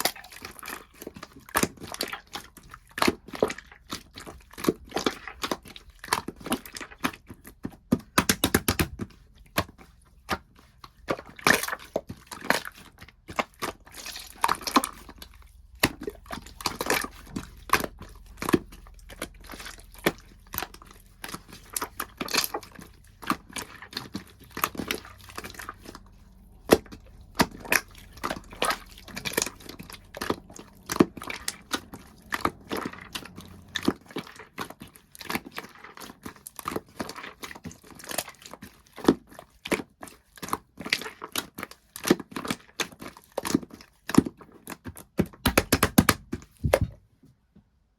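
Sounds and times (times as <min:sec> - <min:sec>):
slime squished by hand: 0:00.0 - 0:47.0.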